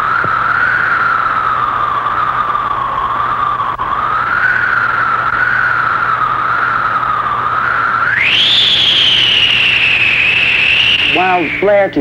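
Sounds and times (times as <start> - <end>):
howling wind whistle: 0.0 - 12.0
low hum: 0.0 - 12.0
steady hiss: 0.0 - 12.0.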